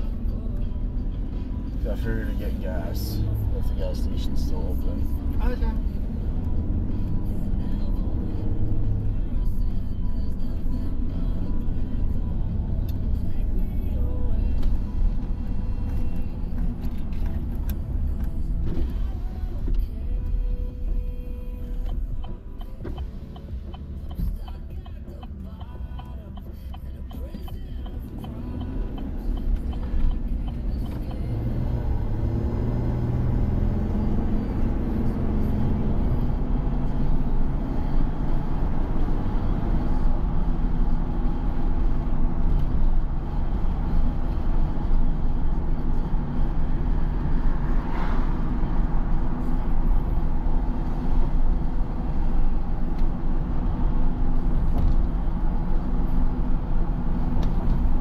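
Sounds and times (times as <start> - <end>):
car engine: 0.0 - 58.0
road rumble: 0.0 - 58.0.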